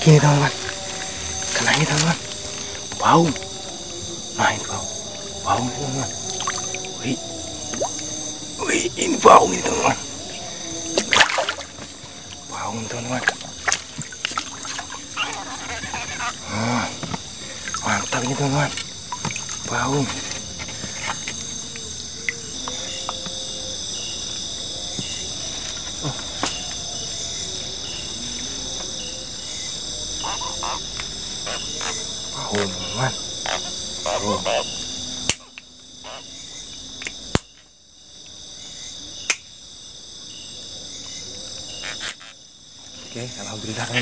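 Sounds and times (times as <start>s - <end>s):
insect chorus trilling: 0.0s - 44.0s.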